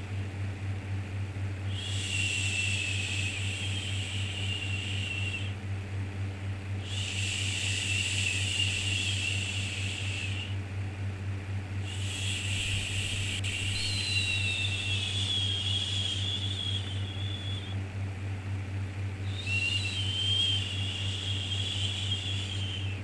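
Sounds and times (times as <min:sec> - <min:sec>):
low hum and white noise hiss: 0:00.0 - 0:23.0.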